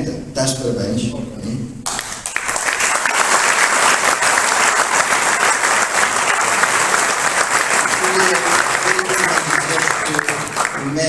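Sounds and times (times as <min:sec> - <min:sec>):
audience applauding: 0:01.9 - 0:11.0.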